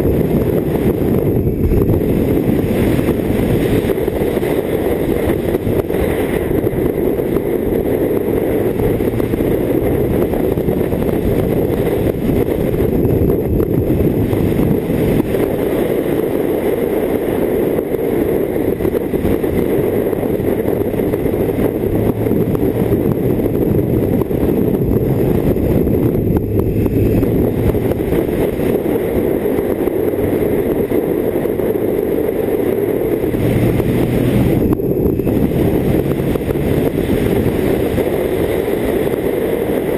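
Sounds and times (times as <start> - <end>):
low motorcycle engine hum: 0.0 - 39.9
wind and road noise: 0.0 - 39.9.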